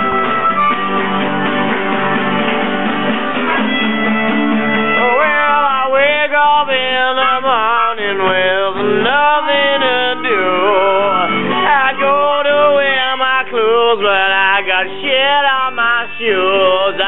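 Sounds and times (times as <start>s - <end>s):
blues harmonica wailing: 0.0s - 17.0s
strummed acoustic guitars: 0.0s - 17.0s.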